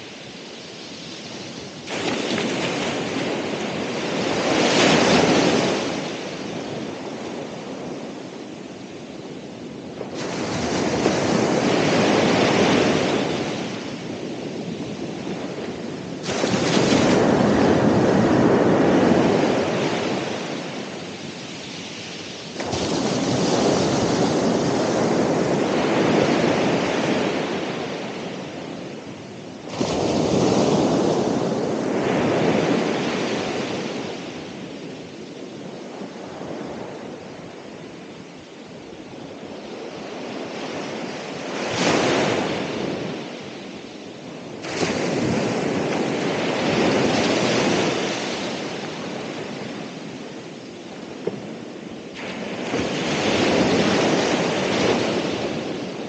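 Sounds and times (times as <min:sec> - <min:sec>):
ocean waves crashing on shore: 0:00.0 - 0:56.0.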